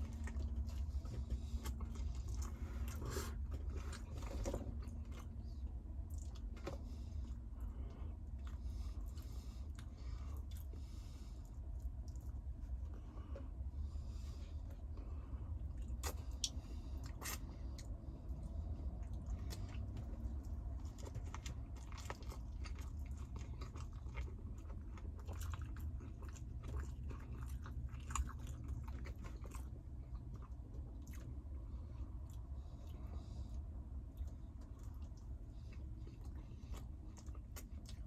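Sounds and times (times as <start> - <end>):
person chewing and biting food: 0.0 - 13.0, 15.7 - 38.0
steady low hum: 0.0 - 38.0.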